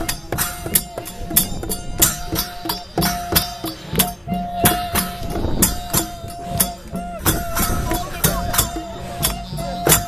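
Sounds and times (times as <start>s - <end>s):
brass hand cymbals clashing: 0.0s - 10.0s.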